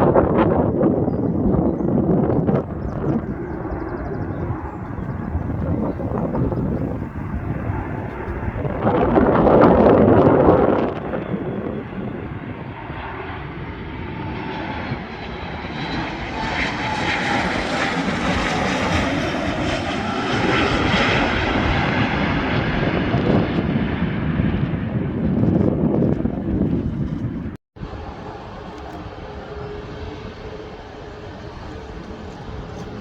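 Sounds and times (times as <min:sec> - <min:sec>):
aeroplane engines passing: 0:00.0 - 0:33.0
wind gust on microphone: 0:00.0 - 0:33.0.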